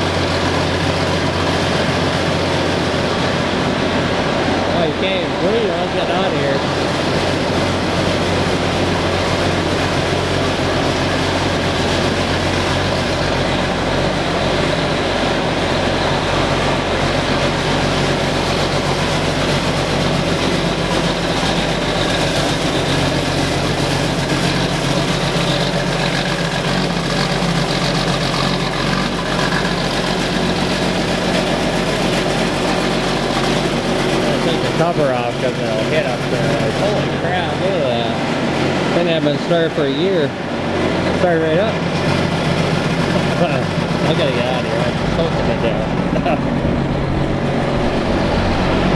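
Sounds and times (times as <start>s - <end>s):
diesel tractor engine idling: 0.0s - 48.9s.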